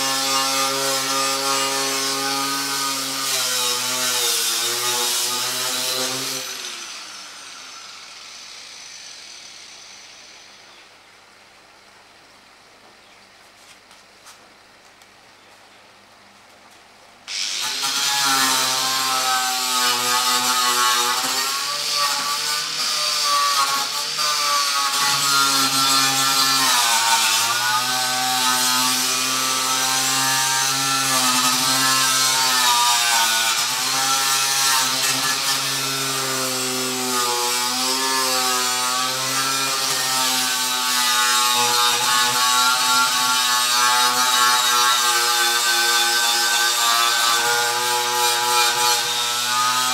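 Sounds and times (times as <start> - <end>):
power tool grinding metal: 0.0 - 10.8, 17.3 - 49.9.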